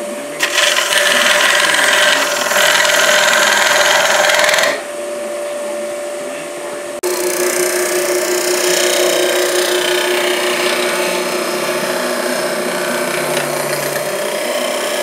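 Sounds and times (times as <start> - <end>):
lathe motor whine: 0.0 - 5.2, 7.0 - 15.0
lathe tool scraping wood: 0.4 - 4.8, 7.0 - 15.0.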